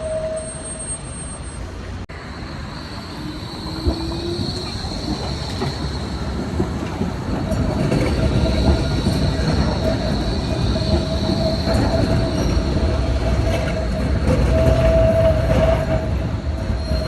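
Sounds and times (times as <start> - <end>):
tram wheels squealing on rails: 0.0 - 17.0
rolling tram rumble: 1.6 - 17.0.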